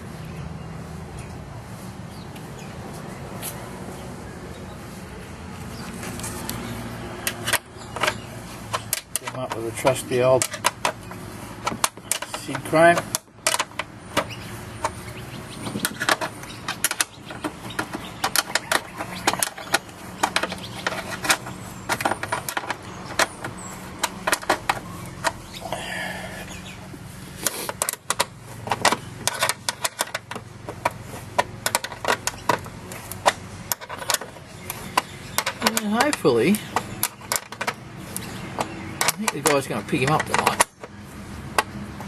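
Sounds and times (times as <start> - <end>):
metallic clicking of car parts: 6.0 - 42.0.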